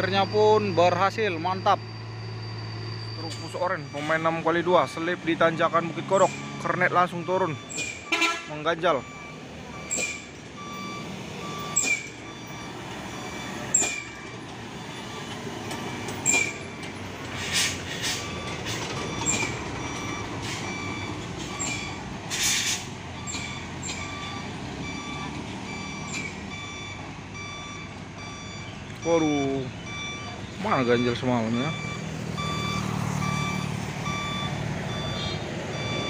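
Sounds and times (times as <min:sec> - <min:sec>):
reversing alarm beeping: 0:00.0 - 0:36.0
truck diesel engine under load: 0:00.0 - 0:36.0.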